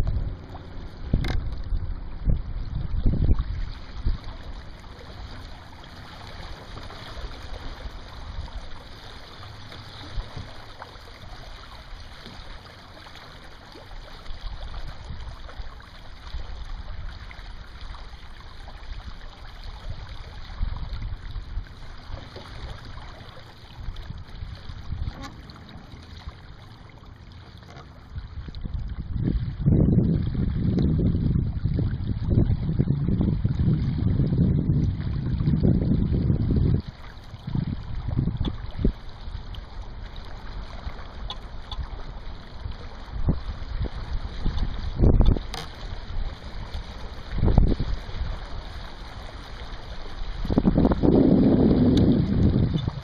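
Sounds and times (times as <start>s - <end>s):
wind buffeting microphone: 0.0s - 11.4s, 19.7s - 27.2s, 28.1s - 53.0s
water lapping against hull: 0.0s - 53.0s.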